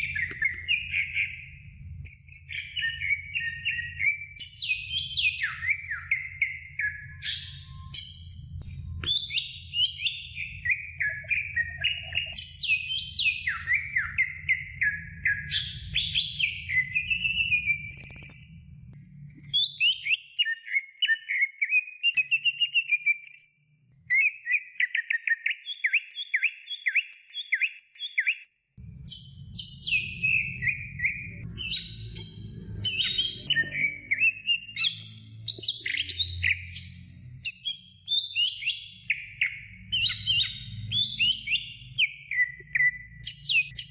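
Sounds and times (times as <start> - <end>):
bird singing whistles and chatter: 0.0 - 18.7, 19.5 - 28.4, 29.1 - 43.9.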